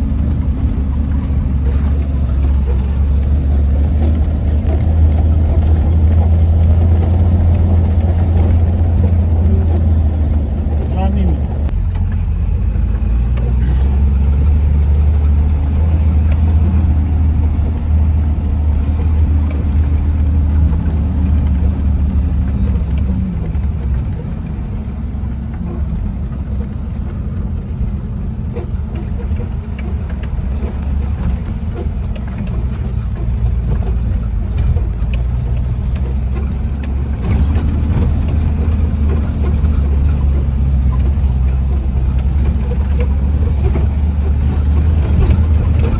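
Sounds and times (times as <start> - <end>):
off-road vehicle engine driving: 0.0 - 45.9.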